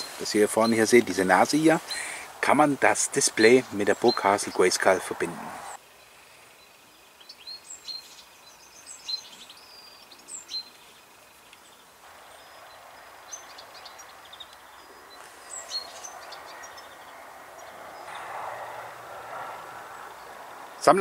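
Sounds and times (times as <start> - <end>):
faint steady background noise: 0.0 - 21.0
small birds chirping: 0.0 - 21.0.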